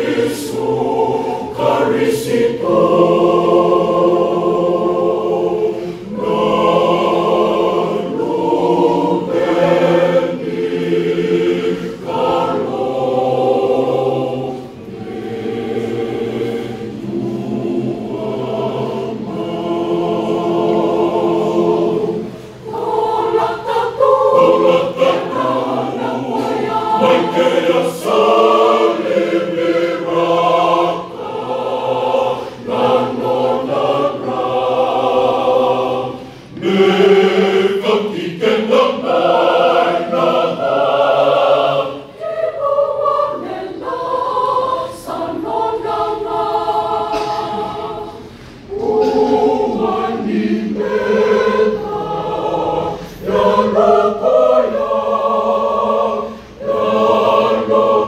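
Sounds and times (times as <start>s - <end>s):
mixed choir singing a hymn: 0.0s - 58.0s.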